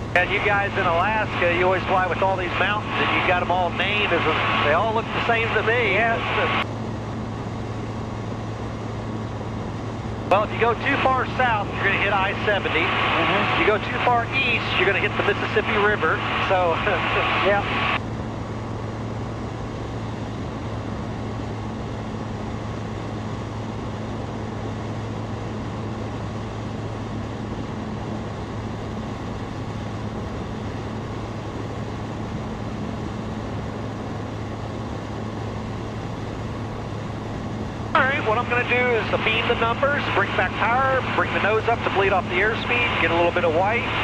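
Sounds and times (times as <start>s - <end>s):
aircraft engine and propeller drone: 0.0s - 44.0s.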